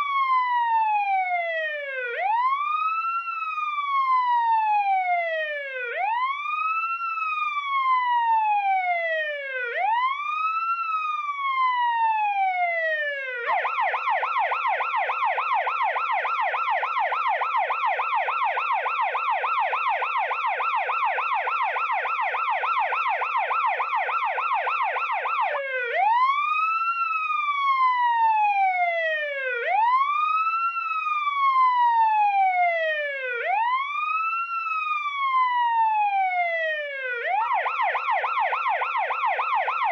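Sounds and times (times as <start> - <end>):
police siren fast yelp: 0.0 - 39.9
police siren wail: 0.0 - 39.9.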